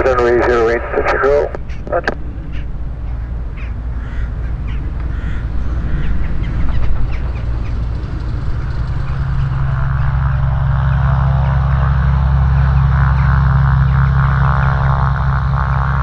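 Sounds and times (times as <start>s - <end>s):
aircraft piston engines droning: 0.0s - 16.0s
birds calling: 0.1s - 16.0s.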